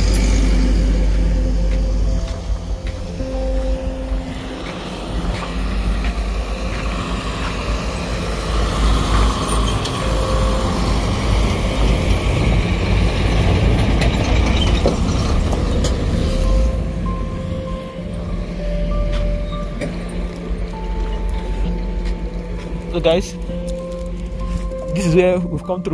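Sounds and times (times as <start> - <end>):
dump truck engine passing: 0.0 - 25.6
steady low rumble: 0.0 - 25.9.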